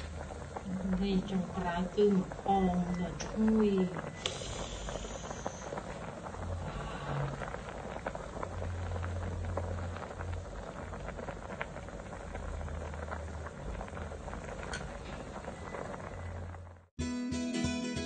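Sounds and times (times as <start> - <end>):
soup bubbles popping at a boil: 0.0 - 16.8
low hum: 0.0 - 16.9.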